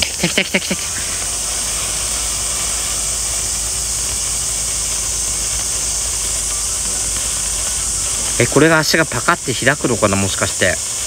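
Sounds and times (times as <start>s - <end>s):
firework sparks hissing: 0.0s - 11.0s.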